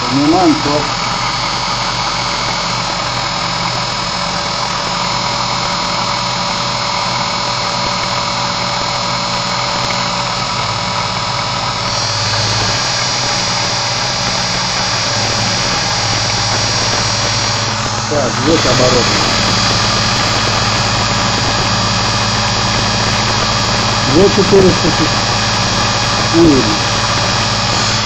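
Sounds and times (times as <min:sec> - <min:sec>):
electric motor humming and whining: 0:00.0 - 0:28.0.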